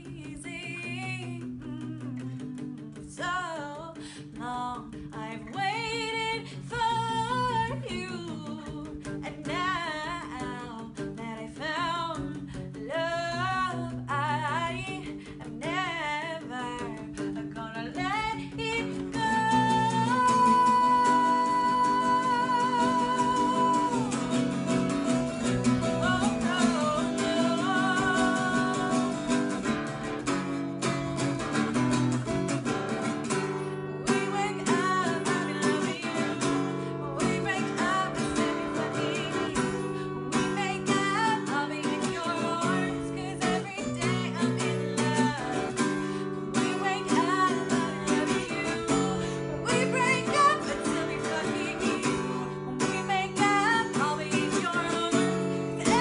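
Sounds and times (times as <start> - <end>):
strummed acoustic guitar: 0.0 - 56.0
woman singing: 0.0 - 56.0.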